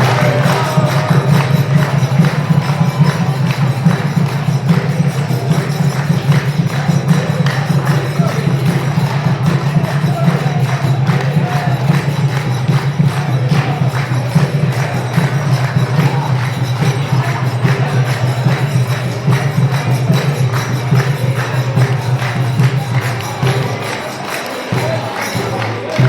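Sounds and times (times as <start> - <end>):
devotional music: 0.0 - 26.0
jingling percussion beat: 0.0 - 26.0.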